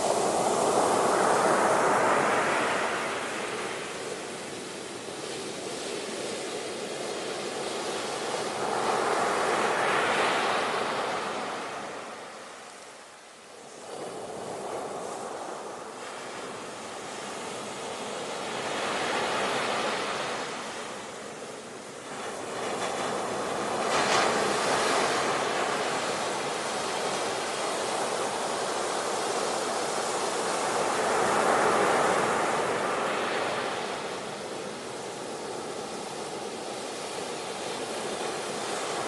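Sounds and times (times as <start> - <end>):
ocean waves breaking on shore: 0.0 - 39.0.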